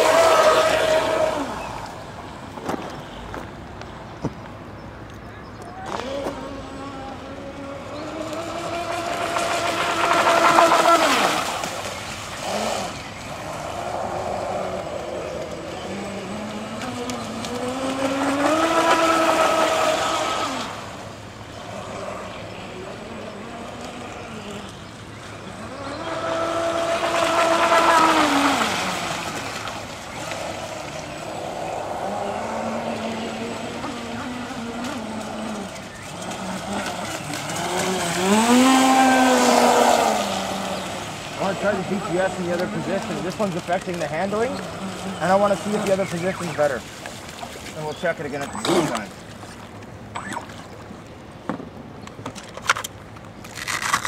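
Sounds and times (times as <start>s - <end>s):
model boat motor running: 5.9s - 49.5s.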